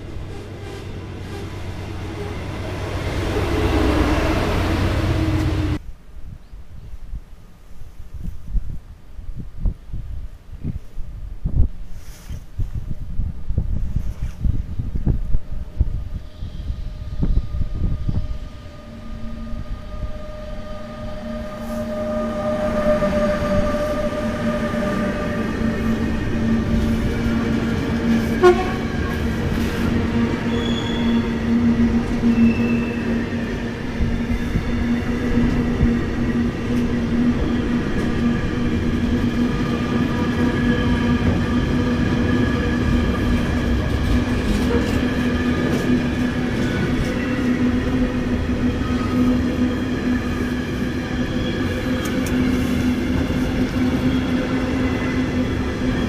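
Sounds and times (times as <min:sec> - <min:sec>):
train rumbling on track: 0:00.0 - 0:05.8, 0:09.4 - 0:56.0.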